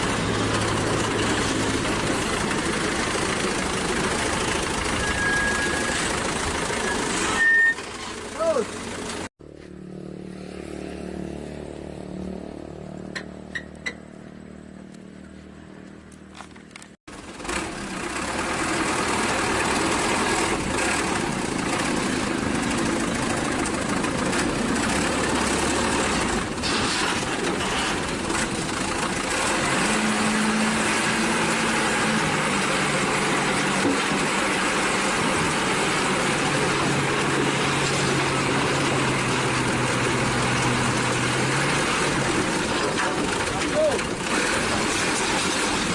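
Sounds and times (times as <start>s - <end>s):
loud dense engine noise: 0.0s - 45.9s.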